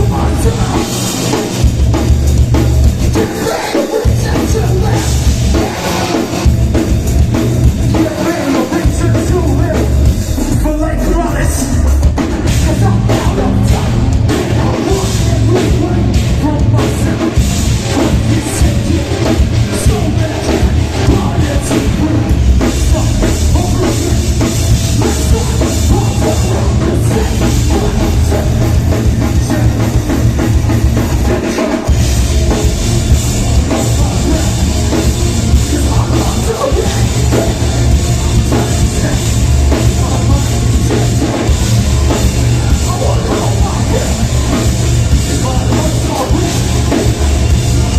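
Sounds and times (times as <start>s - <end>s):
bass guitar: 0.0s - 47.9s
distorted guitars: 0.0s - 47.9s
pounding drum kit: 0.0s - 47.9s
person singing: 3.1s - 6.5s, 7.9s - 32.0s, 32.6s - 47.9s.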